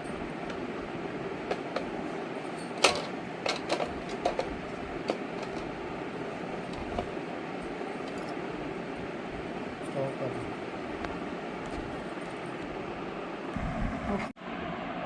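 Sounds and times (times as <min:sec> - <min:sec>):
popcorn machine whirring: 0:00.0 - 0:15.0.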